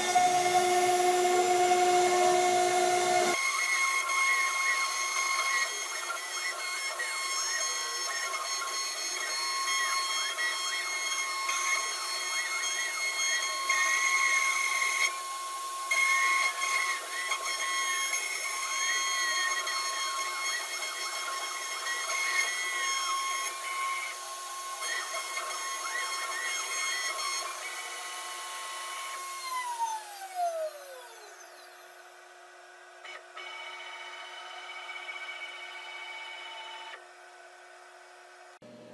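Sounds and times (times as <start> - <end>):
bit cutting wood: 0.0 - 31.6
router spindle whining: 0.0 - 37.0.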